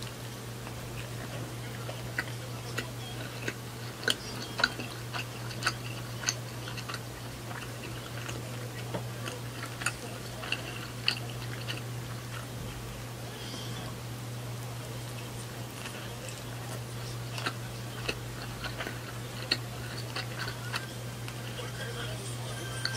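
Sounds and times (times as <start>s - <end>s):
chewing crisp food: 0.0s - 22.9s
low hum: 0.0s - 22.9s.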